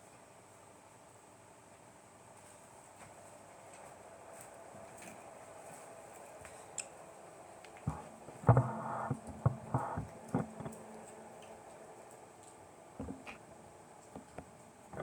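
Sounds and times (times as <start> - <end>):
birds pecking and scuffling: 2.4 - 15.0.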